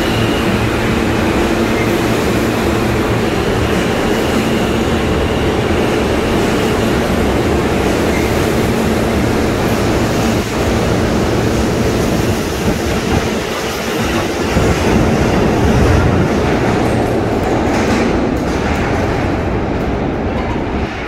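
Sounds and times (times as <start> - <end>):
subway train running on rails: 0.0 - 21.0.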